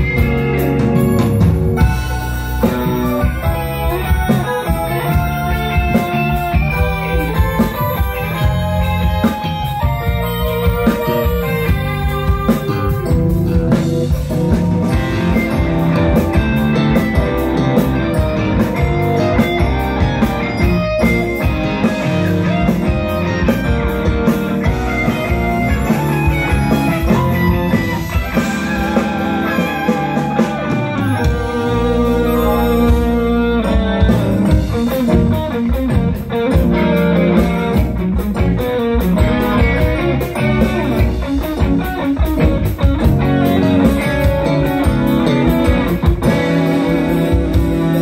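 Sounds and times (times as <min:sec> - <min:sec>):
bass guitar: 0:00.0 - 0:48.0
drum kit: 0:00.0 - 0:48.0
electric guitars: 0:00.0 - 0:48.0
keyboard: 0:00.0 - 0:48.0.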